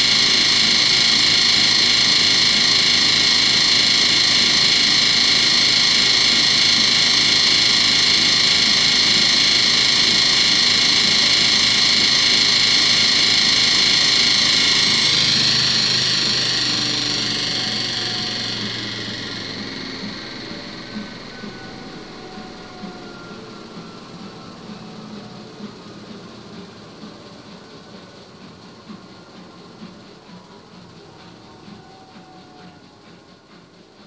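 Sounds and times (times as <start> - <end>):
washing machine spinning: 0.0 - 34.0.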